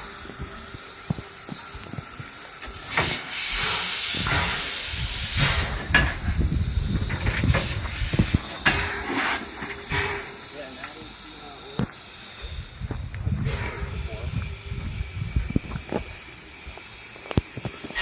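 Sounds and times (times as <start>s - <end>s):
steam locomotive hissing steam: 0.0s - 18.0s.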